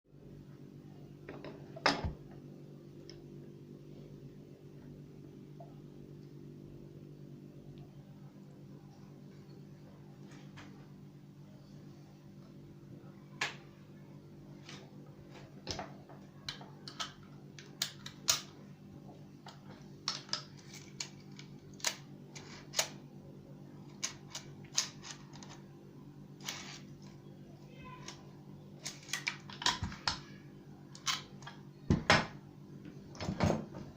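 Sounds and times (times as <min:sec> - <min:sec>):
low steady hum: 0:00.1 - 0:33.9.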